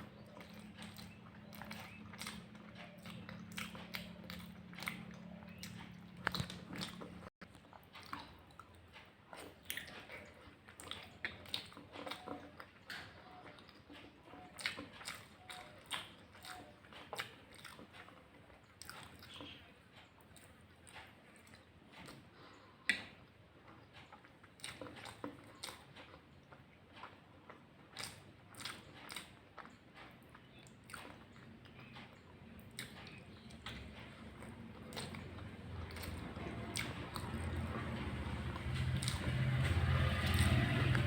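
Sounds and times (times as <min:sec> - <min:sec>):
close chewing and mouth sounds: 0:00.0 - 0:41.0
low steady hum: 0:00.0 - 0:41.0.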